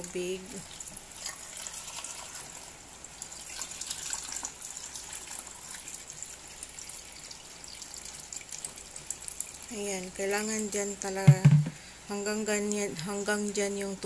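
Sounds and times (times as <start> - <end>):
water running into a pot: 0.2 - 12.0.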